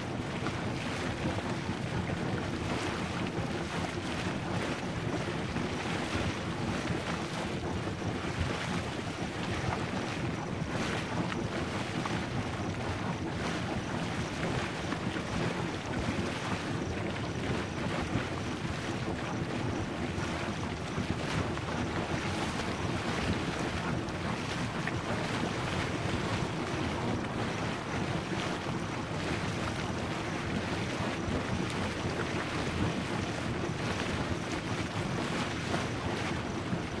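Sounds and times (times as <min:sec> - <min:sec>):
wind on microphone: 0:00.0 - 0:37.0.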